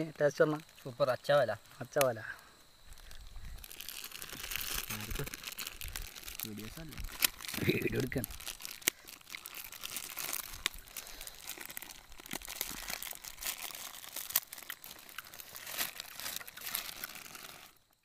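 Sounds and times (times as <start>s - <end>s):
plastic bag crinkling: 2.9s - 18.0s.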